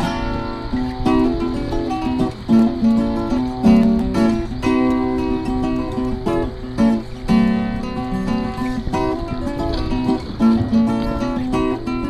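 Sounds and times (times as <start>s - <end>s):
acoustic guitar plucking: 0.0s - 12.0s.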